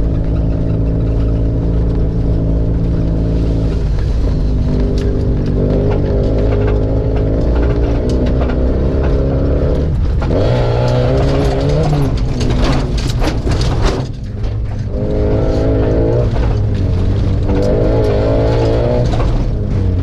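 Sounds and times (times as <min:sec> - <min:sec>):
loud car engine revving: 0:00.0 - 0:20.0
sharp clicks and rattles: 0:00.0 - 0:20.0.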